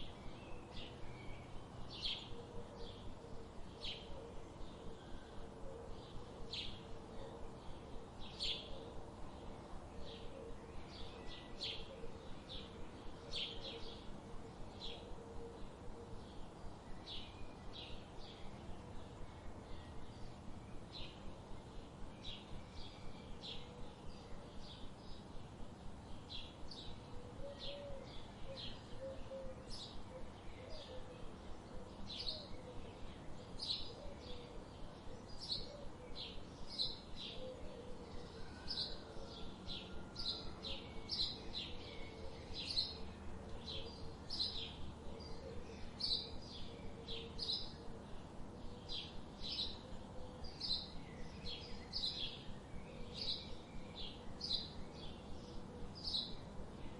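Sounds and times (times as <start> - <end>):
small birds chirping: 0.0 - 56.9
steady background hiss: 0.0 - 56.9.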